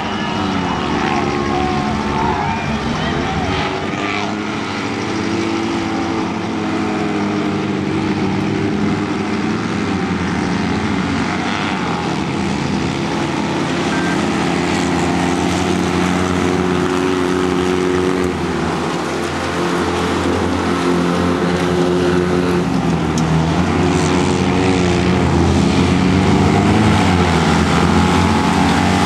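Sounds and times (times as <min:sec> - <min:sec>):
car engines running hard: 0:00.0 - 0:29.0.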